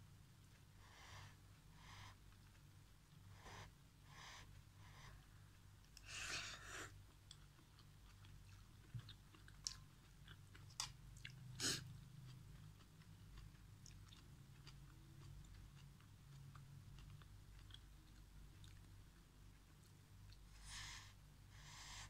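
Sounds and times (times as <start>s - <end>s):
close-up chewing: 0.4s - 21.0s.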